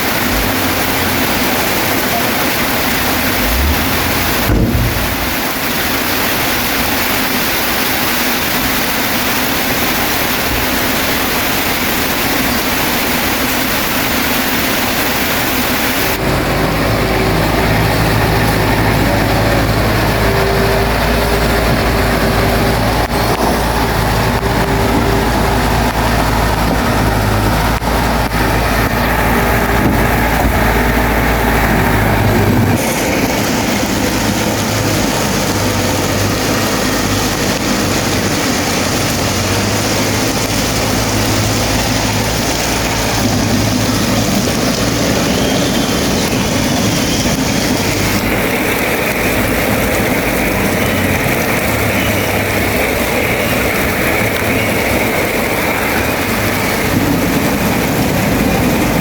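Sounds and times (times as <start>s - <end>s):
bulldozer diesel engine running: 0.0s - 59.0s
heavy rain hiss: 0.0s - 59.0s.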